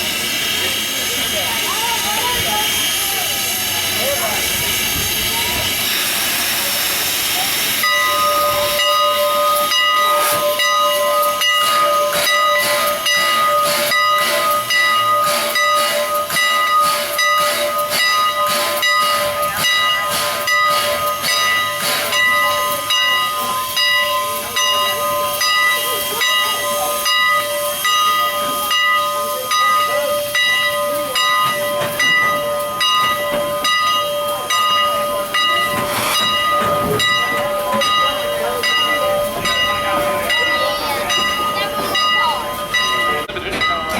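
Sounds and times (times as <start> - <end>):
clattering clicks of train: 0.0 - 43.9
steam hissing: 0.0 - 43.9
train whine: 0.0 - 43.9.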